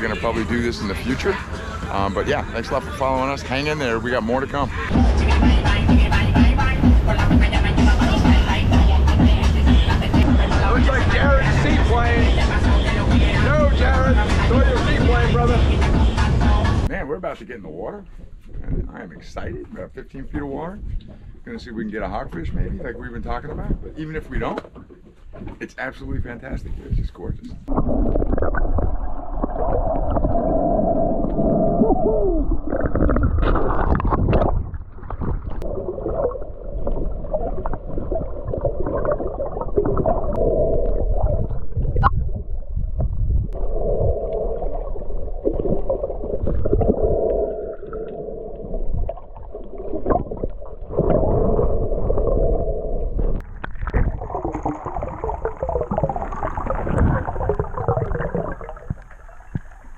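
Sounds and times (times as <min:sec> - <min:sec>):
muffled underwater gurgling: 0:00.0 - 0:16.9, 0:18.2 - 0:24.5, 0:26.0 - 0:59.9.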